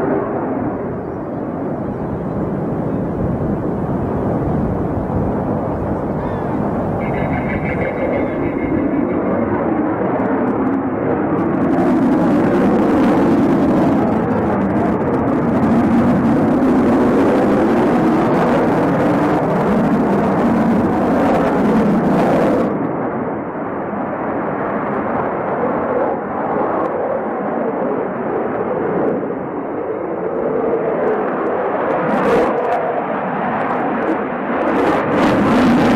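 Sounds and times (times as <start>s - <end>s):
jet fighter engines roaring: 0.0s - 35.9s.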